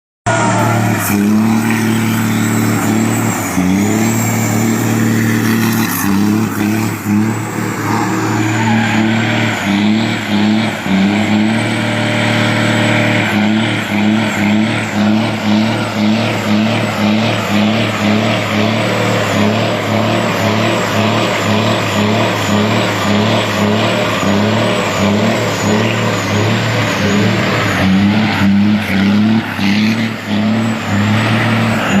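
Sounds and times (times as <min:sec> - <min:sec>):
diesel truck engines running: 0:00.3 - 0:32.0.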